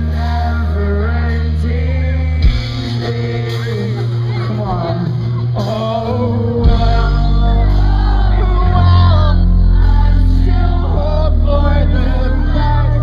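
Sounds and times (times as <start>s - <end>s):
heavy bass: 0.0s - 13.0s
live pop-punk band: 0.0s - 13.0s
person singing: 0.0s - 13.0s.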